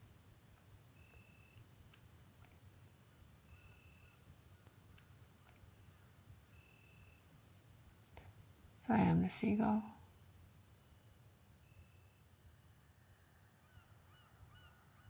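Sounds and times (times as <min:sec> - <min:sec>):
high-pitched insect trill: 0:02.6 - 0:15.0.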